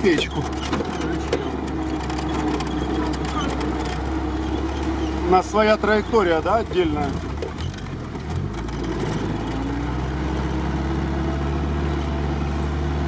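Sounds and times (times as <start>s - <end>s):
vehicle engine from inside cab: 0.0s - 13.0s.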